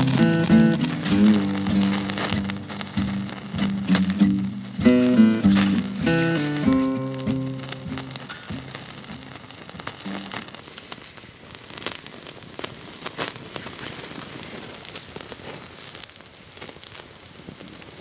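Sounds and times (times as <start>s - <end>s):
campfire crackling: 0.0s - 18.0s
fire popping and snapping: 0.0s - 18.0s
soft steady hiss: 0.0s - 18.0s.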